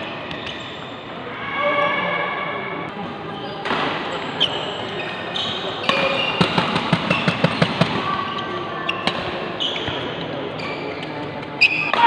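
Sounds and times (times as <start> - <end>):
shoe squeaks: 0.0 - 2.3, 3.3 - 12.0.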